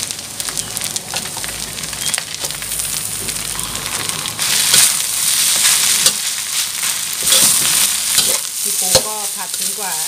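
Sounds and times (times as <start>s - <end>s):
rice sizzling in a wok: 0.0s - 10.0s.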